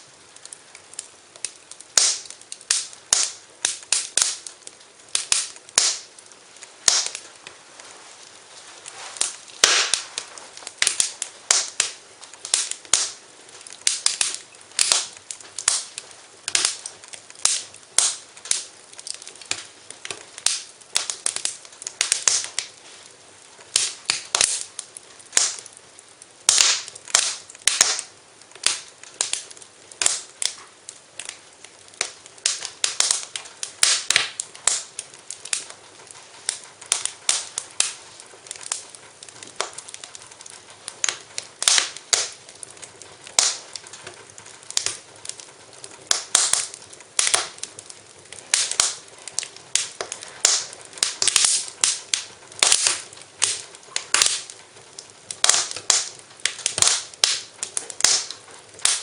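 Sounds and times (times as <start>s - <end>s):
faint hiss: 0.0s - 59.0s
fire crackling and popping: 0.0s - 59.0s.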